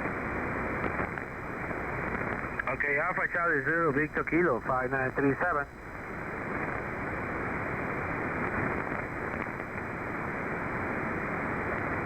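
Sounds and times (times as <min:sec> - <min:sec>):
shortwave receiver hiss and static: 0:00.0 - 0:12.0.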